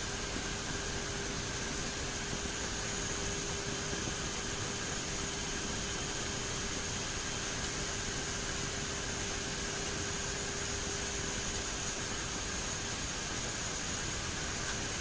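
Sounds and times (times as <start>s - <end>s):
airliner engine and airflow noise: 0.0s - 15.0s.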